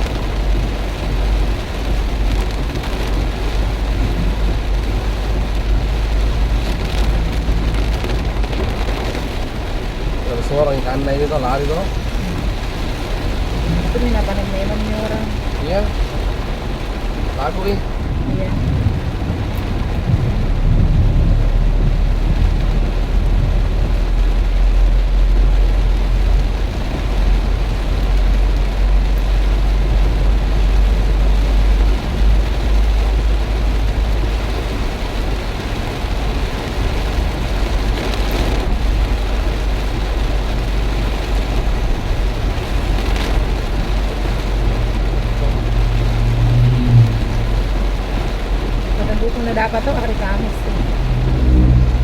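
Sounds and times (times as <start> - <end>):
heavy rain pouring: 0.0 - 52.0
low rumble: 0.0 - 52.0.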